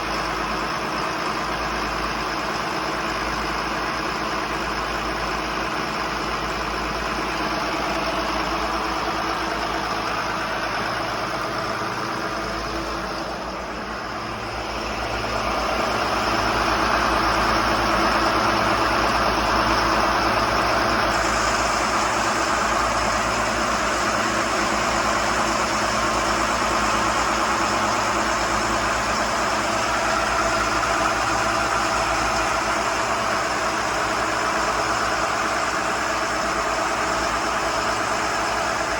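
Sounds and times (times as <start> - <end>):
boat engines running: 0.0 - 38.9.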